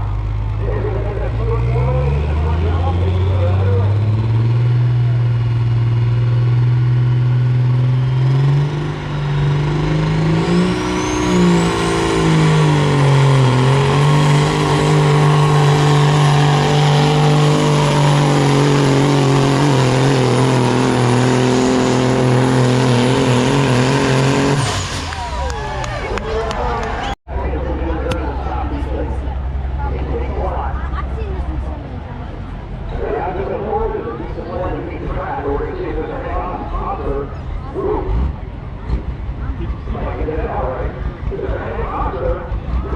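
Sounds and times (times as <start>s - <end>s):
diesel engine at high revs: 0.0s - 42.9s.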